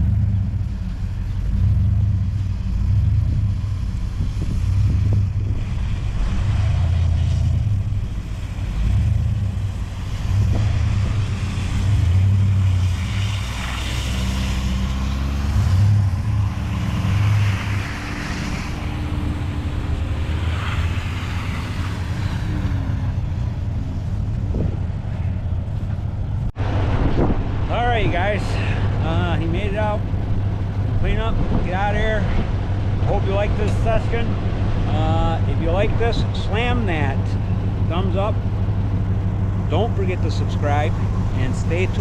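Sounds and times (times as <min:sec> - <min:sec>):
tires in slushy snow: 0:00.0 - 0:42.0
vehicle engine revving: 0:00.0 - 0:42.0.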